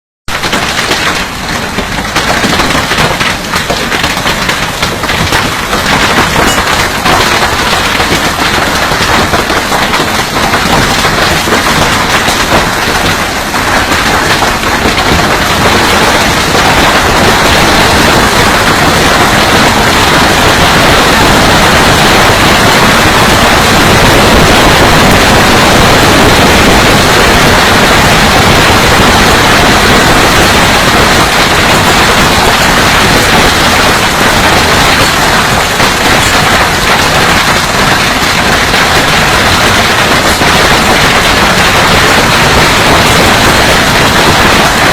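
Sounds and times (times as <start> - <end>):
hailstones pelting down: 0.3 - 44.9.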